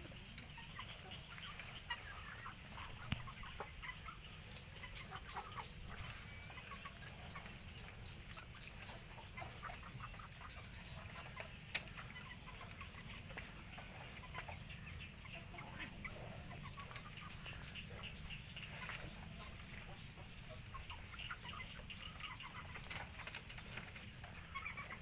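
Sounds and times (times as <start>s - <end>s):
birds chirping and clucking: 0.0s - 25.0s.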